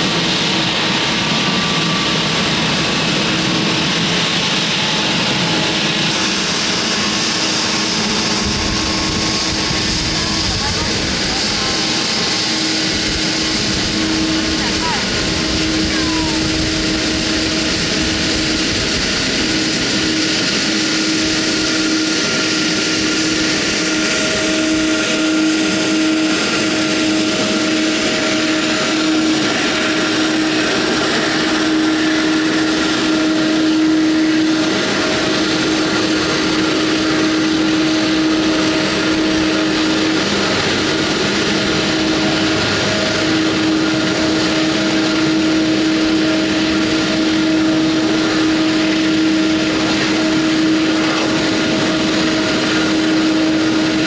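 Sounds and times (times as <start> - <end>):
jet turbines running: 0.0 - 54.0.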